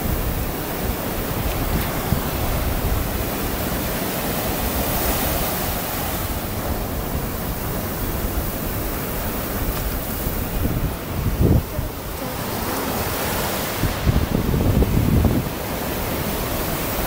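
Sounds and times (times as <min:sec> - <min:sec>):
waves breaking and washing: 0:00.0 - 0:17.0
wind on microphone: 0:00.0 - 0:17.0.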